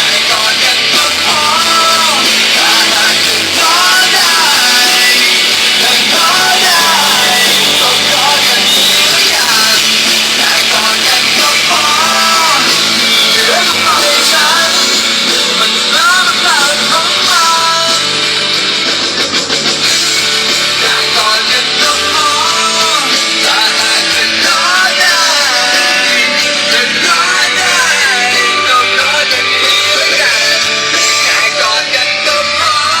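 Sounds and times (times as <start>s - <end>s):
song with singing voice: 0.0s - 33.0s.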